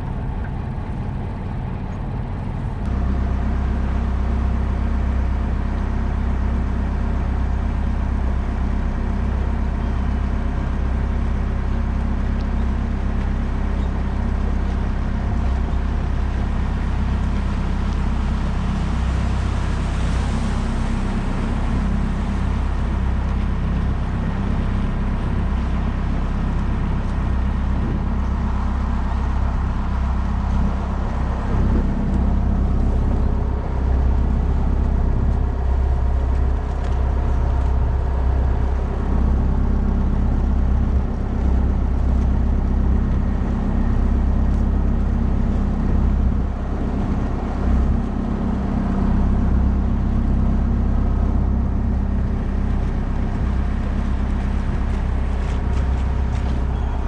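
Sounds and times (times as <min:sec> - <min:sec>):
boat engine drone: 0:00.0 - 0:57.0.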